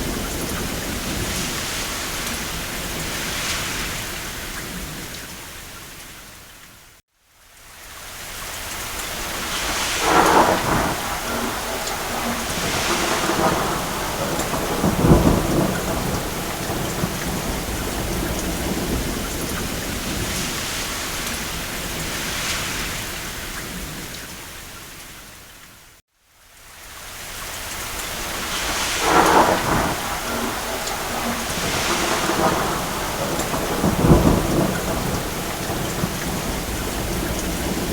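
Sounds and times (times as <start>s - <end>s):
thunder rumbling: 0.0s - 5.4s, 9.0s - 24.2s, 28.0s - 37.9s
rain on a roof: 0.0s - 37.9s.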